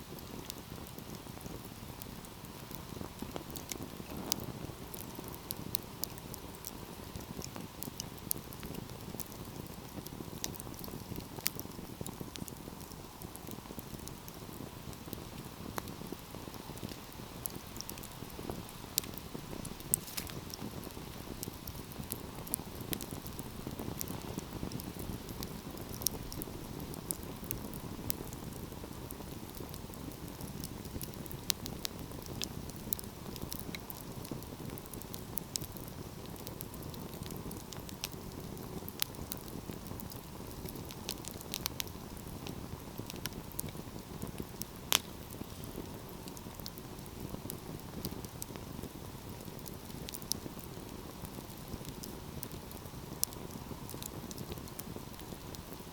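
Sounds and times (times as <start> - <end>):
burning wood crackling and popping: 0.0 - 55.9
low rush of flames: 0.0 - 55.9.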